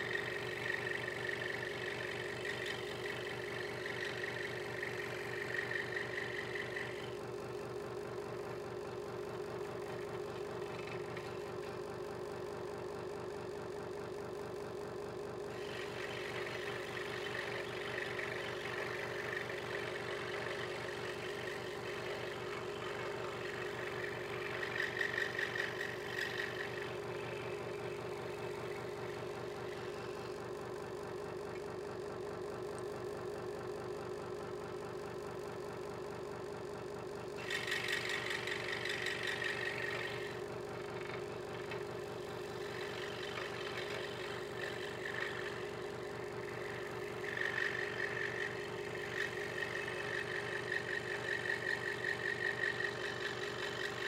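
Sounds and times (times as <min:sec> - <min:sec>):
scroll saw cutting wood: 0:00.0 - 0:07.5, 0:09.0 - 0:12.4, 0:15.4 - 0:31.8, 0:37.2 - 0:54.0.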